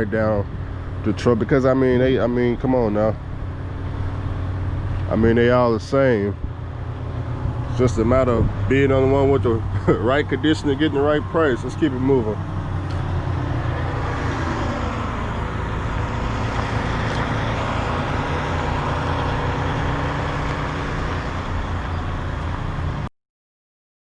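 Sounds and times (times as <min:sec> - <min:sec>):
diesel truck engine idling: 0:00.0 - 0:23.1.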